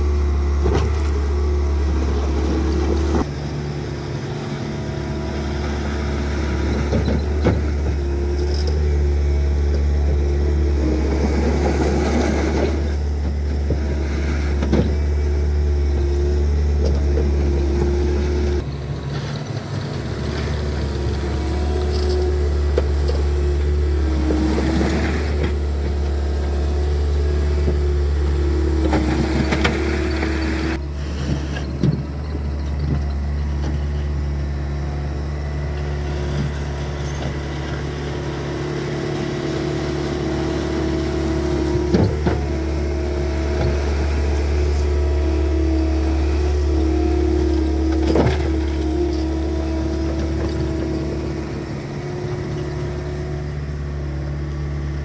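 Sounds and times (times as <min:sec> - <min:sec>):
diesel engine running: 0:00.0 - 0:55.0
hydraulic whine: 0:00.0 - 0:55.0.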